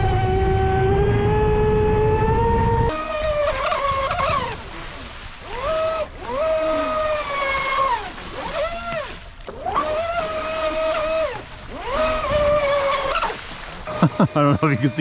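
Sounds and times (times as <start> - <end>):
electric motor whining: 0.0 - 4.7, 5.4 - 13.4.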